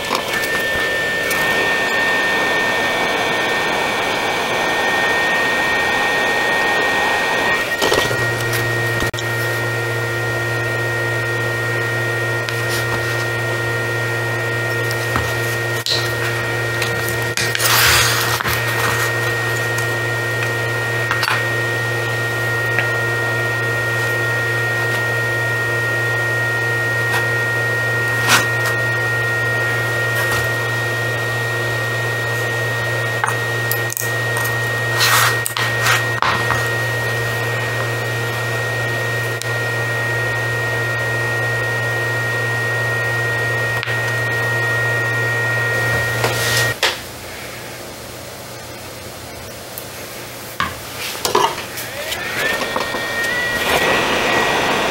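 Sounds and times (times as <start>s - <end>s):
hot-air station blowing: 0.0s - 54.9s.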